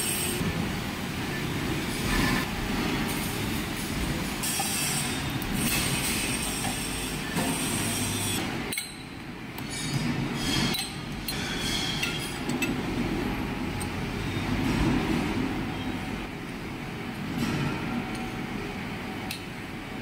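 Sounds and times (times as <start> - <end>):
machine shop din: 0.0 - 20.0.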